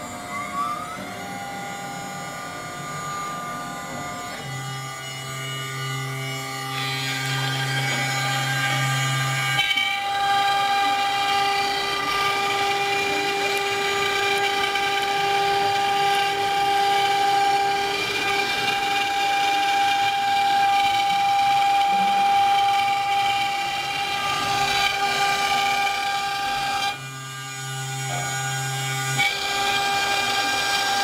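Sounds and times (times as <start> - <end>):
router spindle whine: 0.0 - 31.0.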